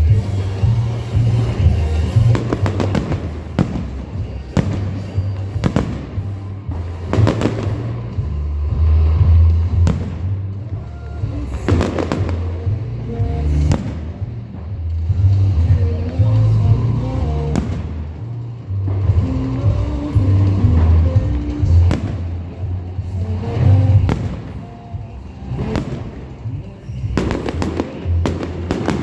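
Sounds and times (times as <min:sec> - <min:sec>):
christmas music with heavy bass: 0:00.0 - 0:29.0
firework bangs: 0:00.0 - 0:29.0.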